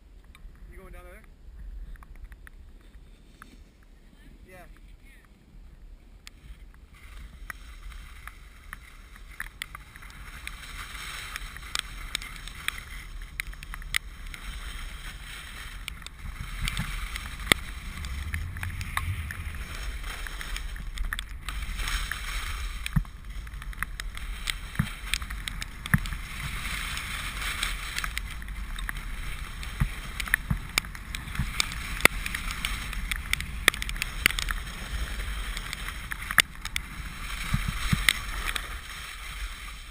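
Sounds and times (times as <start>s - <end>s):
wind rumble on microphone: 0.0s - 39.9s
skis carving through snow: 6.3s - 39.9s.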